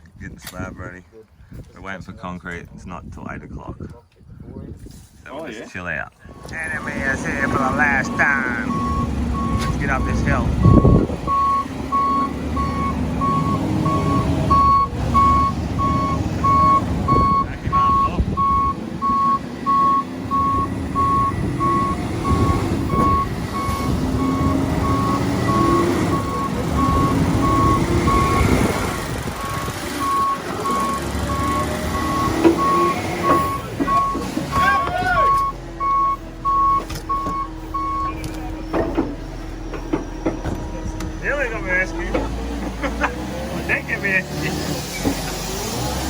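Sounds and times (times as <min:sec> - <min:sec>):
truck engine rumble: 0:04.6 - 0:46.0
truck reversing alarm beeping: 0:06.2 - 0:46.0.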